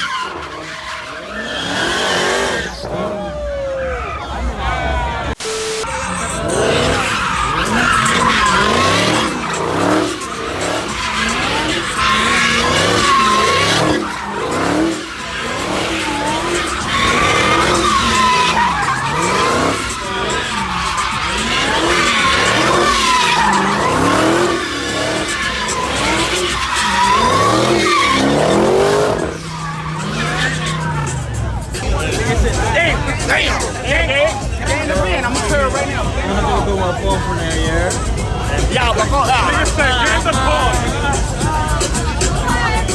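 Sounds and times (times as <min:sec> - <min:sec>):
car engine revving: 0:00.0 - 0:42.9
tyres squealing: 0:00.0 - 0:42.9.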